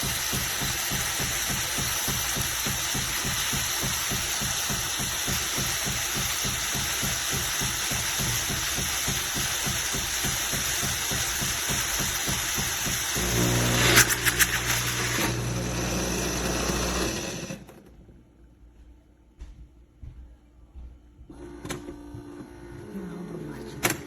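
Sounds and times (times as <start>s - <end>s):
espresso machine pump pulsing: 0.0s - 17.8s, 21.3s - 24.0s.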